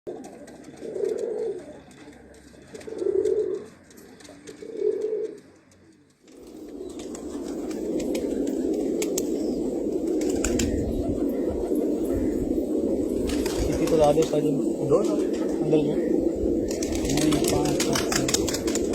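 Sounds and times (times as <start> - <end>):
pigeons cooing: 0.1 - 18.9.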